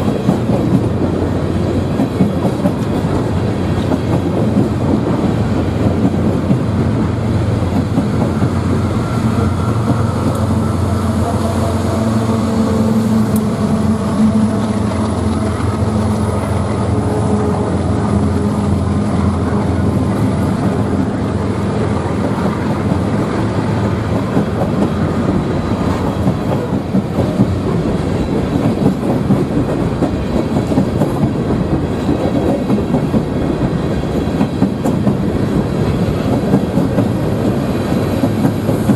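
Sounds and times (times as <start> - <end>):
diesel locomotive engine hum: 0.0 - 38.9
train wheels rolling on rails: 0.0 - 38.9.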